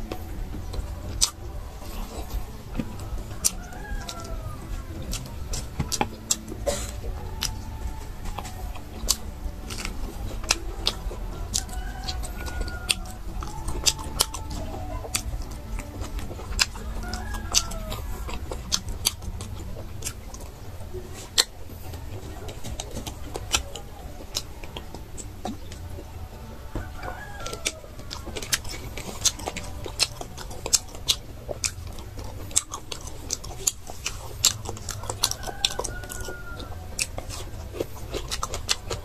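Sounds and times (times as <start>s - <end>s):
chewing meat and mouth smacks: 0.0s - 39.0s
chickens clucking: 0.0s - 39.0s.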